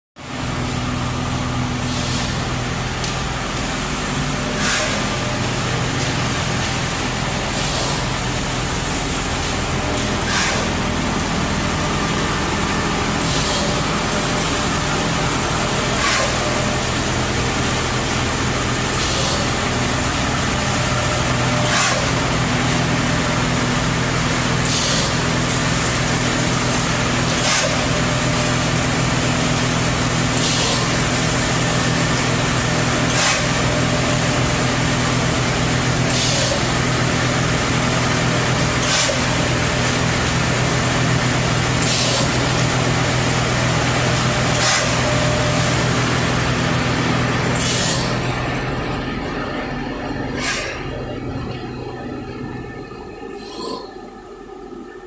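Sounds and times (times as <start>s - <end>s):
machinery humming: 0.2s - 55.0s.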